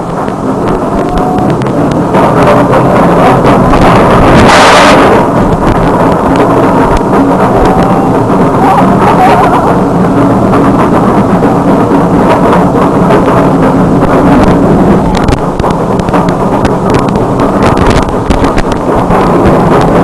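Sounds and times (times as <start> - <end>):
roller coaster lift chain rumbling: 0.0 - 20.0
wind gusts on microphone: 0.0 - 20.0.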